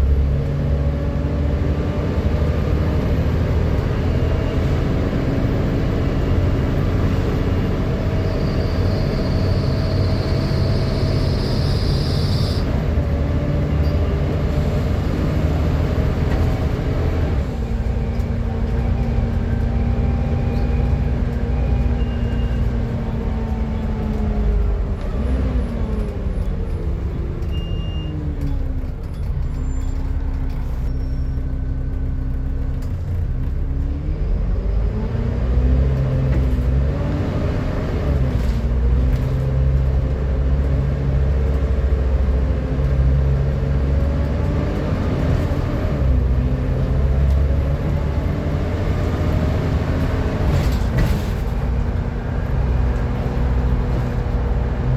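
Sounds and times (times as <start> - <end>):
bus diesel engine whining: 0.0 - 54.9.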